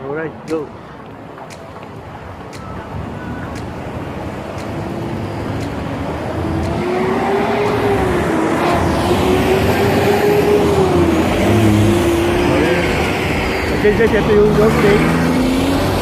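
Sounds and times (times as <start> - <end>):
busy road traffic: 0.0 - 16.0
heavy truck engine drone: 2.2 - 16.0.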